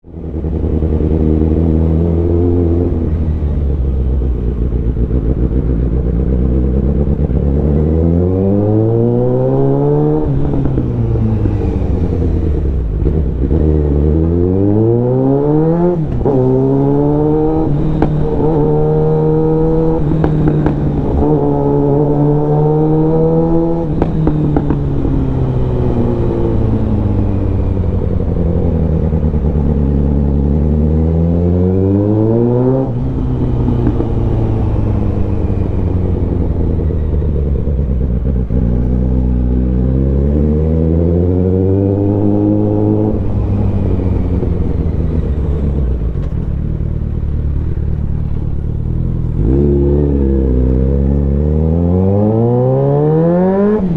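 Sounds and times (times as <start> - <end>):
motorcycle engine revving: 0.1 - 53.9.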